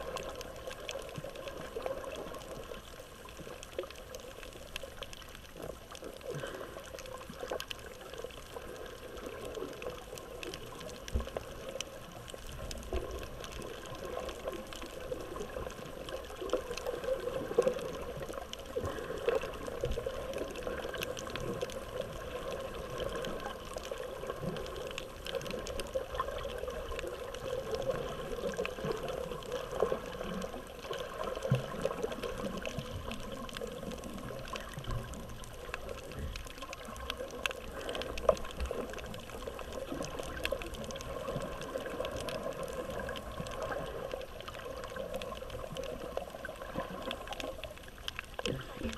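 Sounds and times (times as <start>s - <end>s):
faint clicks and crackles: 0.0s - 48.9s
underwater moving water: 0.0s - 48.9s.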